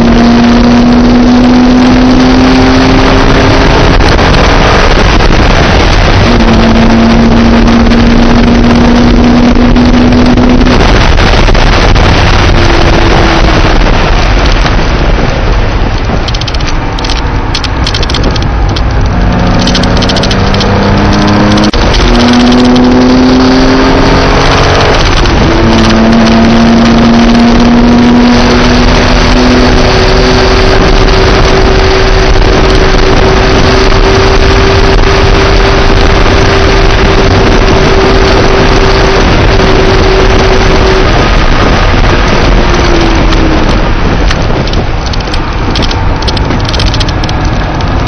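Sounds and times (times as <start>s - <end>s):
car engine accelerating: 0.0s - 48.0s
wind and road noise: 0.0s - 48.0s.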